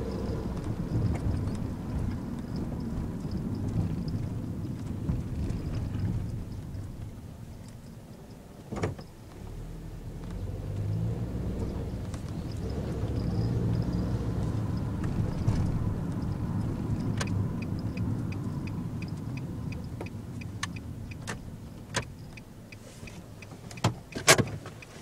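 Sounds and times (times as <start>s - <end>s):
road noise: 0.0s - 25.0s
van engine: 0.0s - 25.0s.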